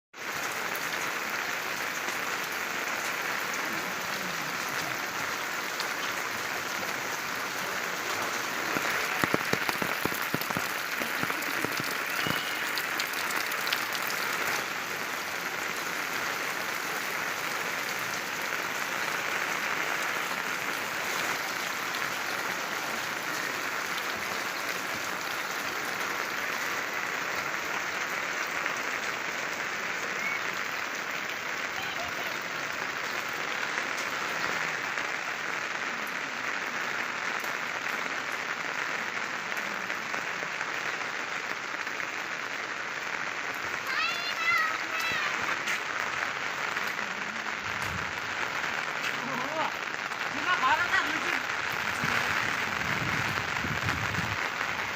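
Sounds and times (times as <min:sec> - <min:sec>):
steady rain hiss: 0:00.2 - 0:54.9.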